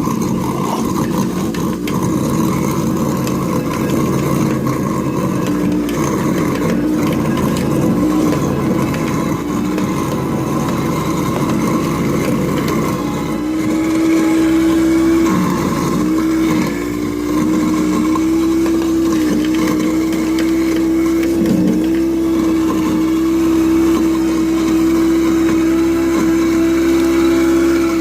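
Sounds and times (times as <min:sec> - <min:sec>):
garbage disposal motor humming: 0:00.0 - 0:28.0.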